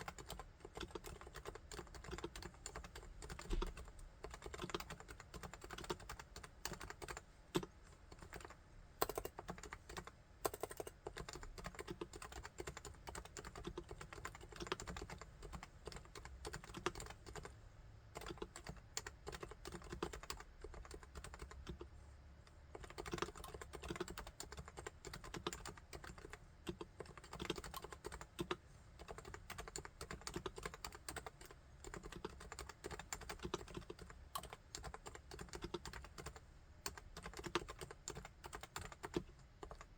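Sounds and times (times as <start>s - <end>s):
keyboard typing: 0.0s - 21.9s, 22.7s - 39.9s.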